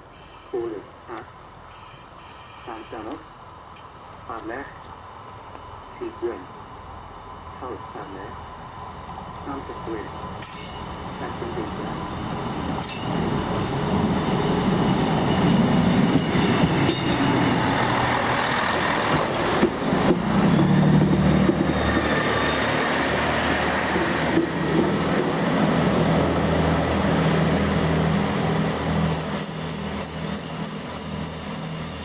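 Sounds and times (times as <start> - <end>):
diesel train engine humming: 0.0 - 32.0.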